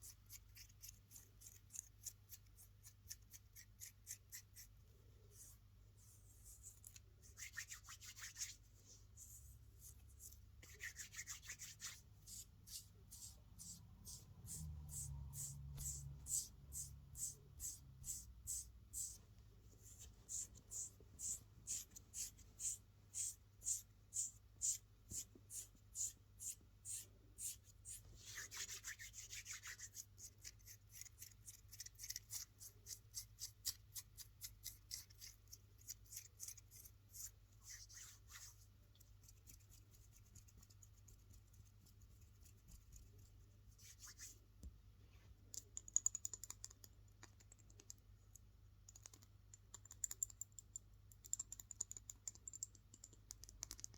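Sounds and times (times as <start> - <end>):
scratching on small object: 0.0 - 44.4.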